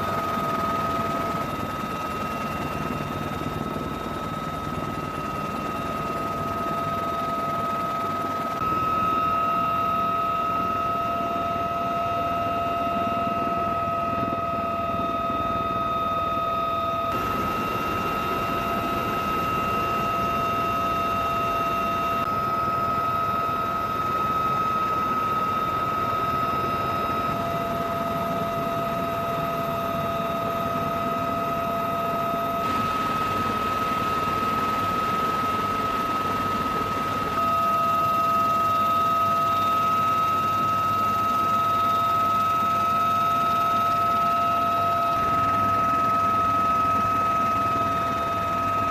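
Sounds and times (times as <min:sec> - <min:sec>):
helicopter engine and rotor noise: 0:00.0 - 0:48.9
helicopter turbine whine: 0:00.0 - 0:48.9.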